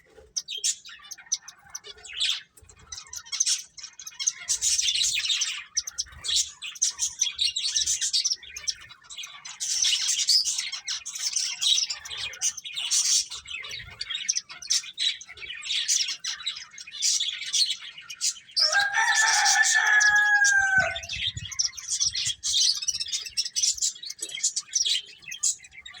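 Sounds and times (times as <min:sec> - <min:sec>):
finches chirping: 0:00.0 - 0:26.0.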